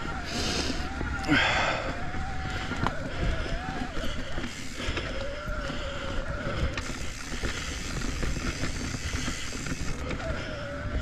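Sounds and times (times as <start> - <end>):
bike rattling and knocking: 0.0 - 11.0
bike tyres rumbling on dirt: 0.0 - 11.0.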